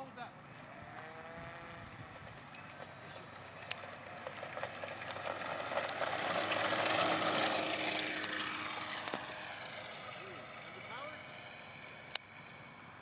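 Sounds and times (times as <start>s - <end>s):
model plane electric motor: 0.6s - 13.0s.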